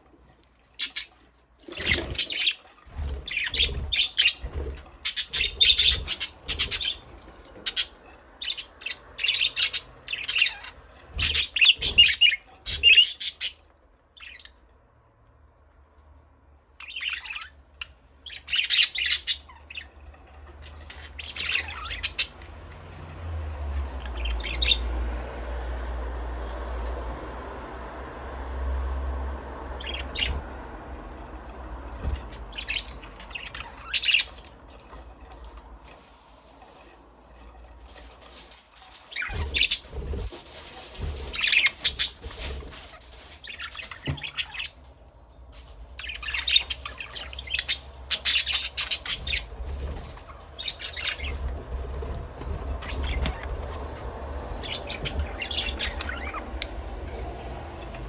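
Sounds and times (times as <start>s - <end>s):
budgerigars chirping and squawking: 0.7s - 13.6s, 14.2s - 14.6s, 16.8s - 25.6s, 28.8s - 36.0s, 36.6s - 44.9s, 45.8s - 57.2s.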